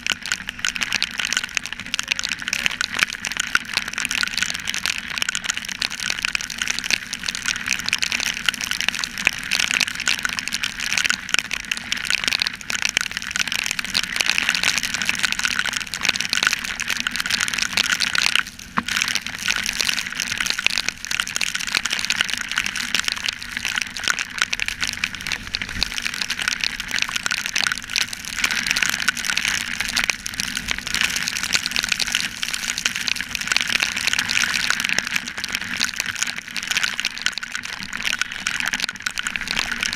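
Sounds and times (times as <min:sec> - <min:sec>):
raindrops crackling on camera housing: 0:00.0 - 0:39.9.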